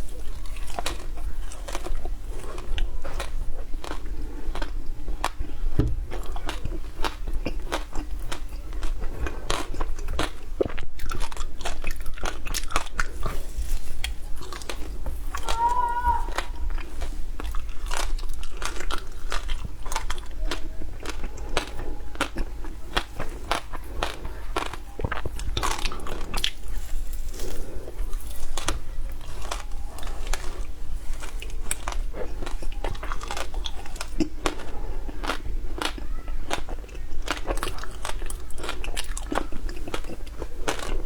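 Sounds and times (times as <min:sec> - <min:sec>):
crunching and chewing ice: 0:00.0 - 0:41.0.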